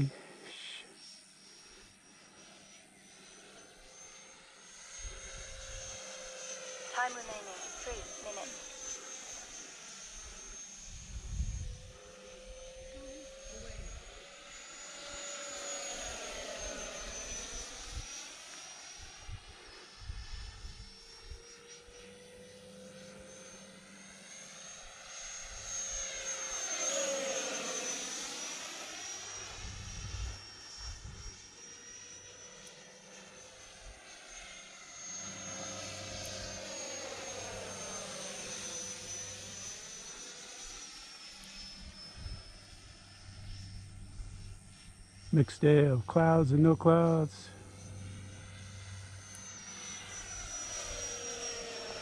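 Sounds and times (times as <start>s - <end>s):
model jet high whine: 0.0s - 52.0s.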